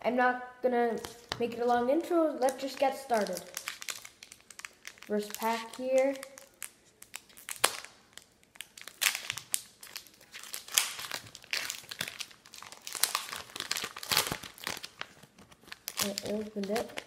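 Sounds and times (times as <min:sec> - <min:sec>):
foil wrapper crinkling and tearing: 0:02.4 - 0:17.0.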